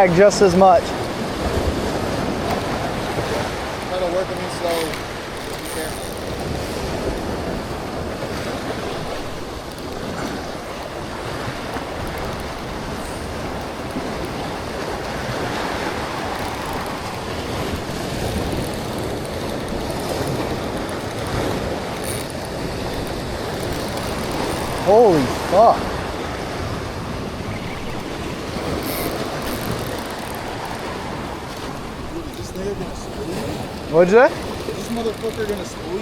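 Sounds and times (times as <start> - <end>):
ocean surf rushing: 0.0 - 36.0.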